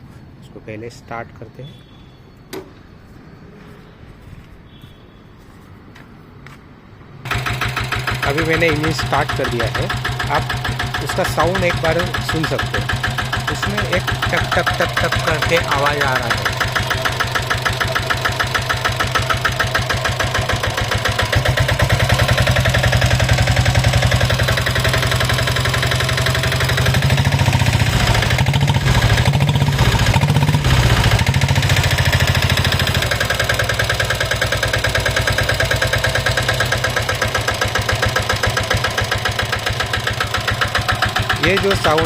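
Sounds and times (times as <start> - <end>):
diesel engine knocking: 7.3 - 42.0.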